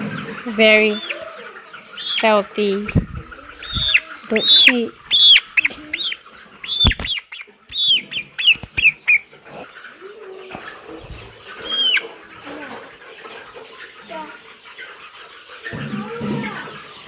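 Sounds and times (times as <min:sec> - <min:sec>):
chickens peeping: 0:00.0 - 0:17.0.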